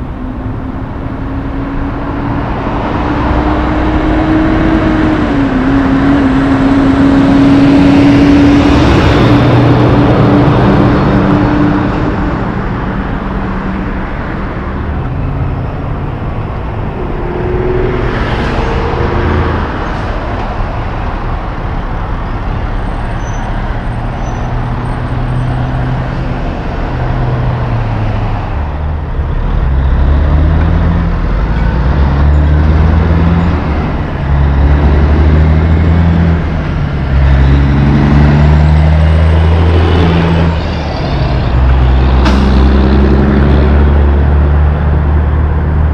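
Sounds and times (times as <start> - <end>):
diesel trucks passing: 0.0 - 45.9
traffic noise: 0.0 - 45.9
truck engine shifting gears: 0.0 - 45.9.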